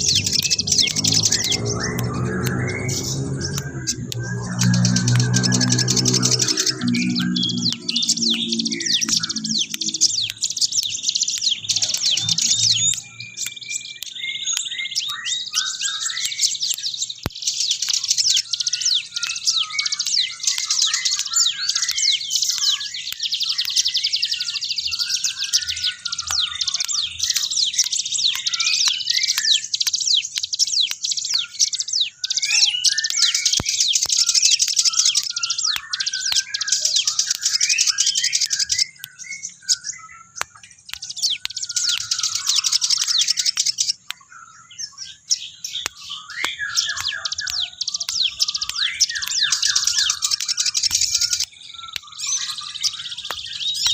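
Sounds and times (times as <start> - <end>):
bird singing rapid high chirps: 0.0 - 53.9.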